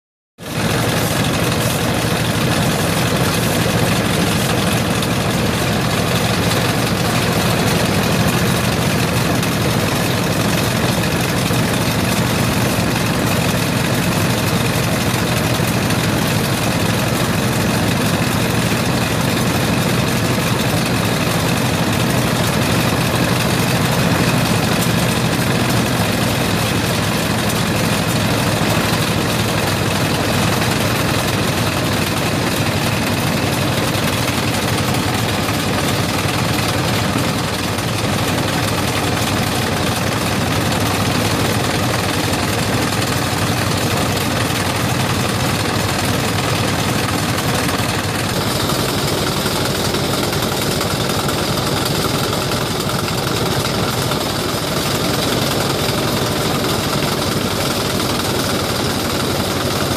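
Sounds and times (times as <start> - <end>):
small engine running: 0.4 - 59.9
stone mill hissing and rattling: 0.4 - 59.9.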